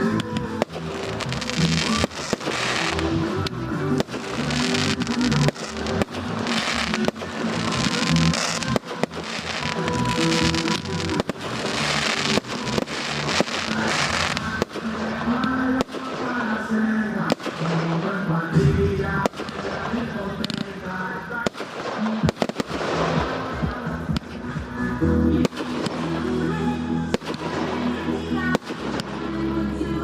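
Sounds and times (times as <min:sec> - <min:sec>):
firework bangs and crackling: 0:00.0 - 0:30.0
music soundtrack: 0:00.0 - 0:30.0.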